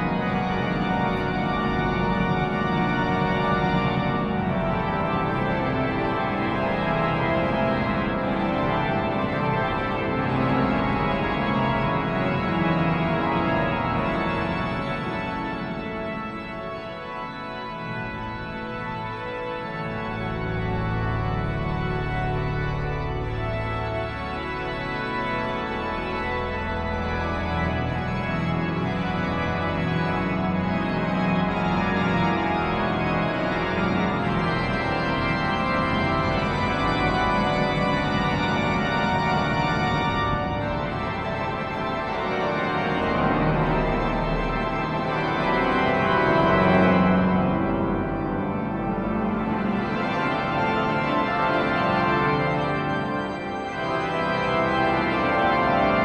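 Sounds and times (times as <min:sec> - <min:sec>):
pipe organ playing chords: 0:00.0 - 0:56.0.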